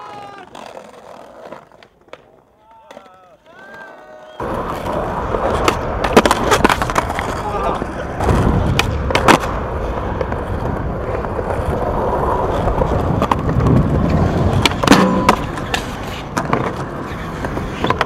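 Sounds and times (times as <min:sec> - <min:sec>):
skateboard popping and landing: 0:00.0 - 0:18.0
skateboard wheels rolling on concrete: 0:00.0 - 0:18.0.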